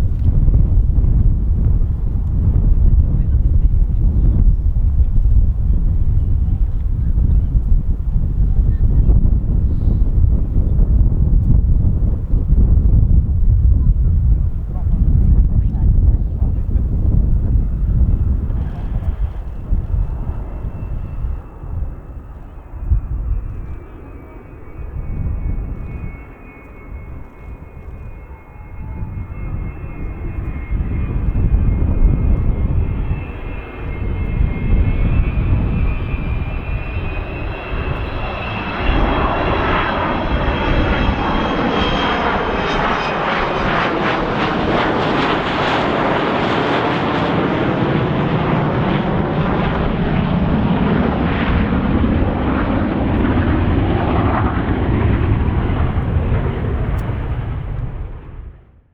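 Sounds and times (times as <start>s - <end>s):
jet engines at takeoff power: 0.0s - 58.9s.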